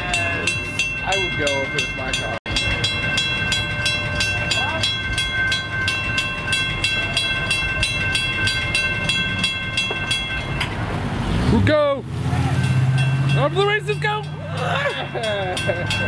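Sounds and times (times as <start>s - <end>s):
railroad crossing bell ringing: 0.0s - 11.0s, 12.4s - 16.0s.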